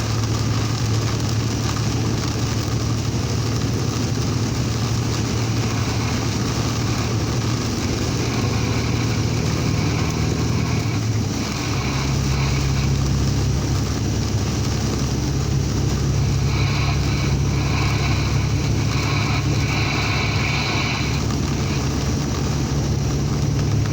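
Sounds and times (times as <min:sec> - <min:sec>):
heavy rain: 0:00.0 - 0:23.9
road noise: 0:00.0 - 0:23.9
vehicle engine droning: 0:00.0 - 0:23.9.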